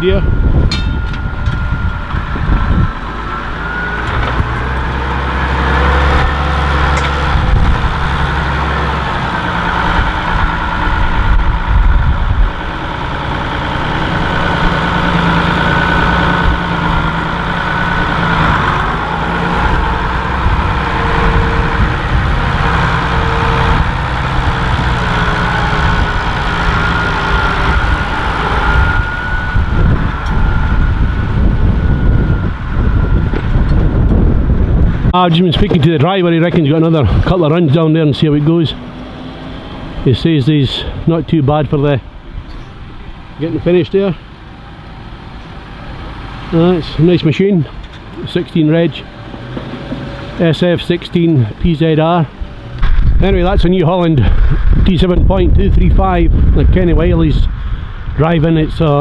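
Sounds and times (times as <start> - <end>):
steady high whine: 0.0 - 49.2
tractor engine under load: 0.0 - 59.0.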